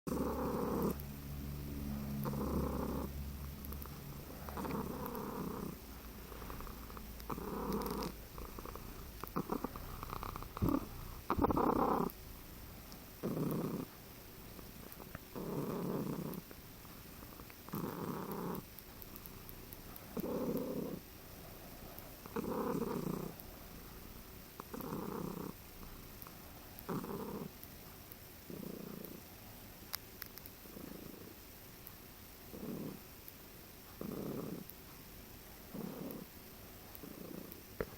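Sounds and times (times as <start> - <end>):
cat purring with a rattle: 0.1 - 37.9.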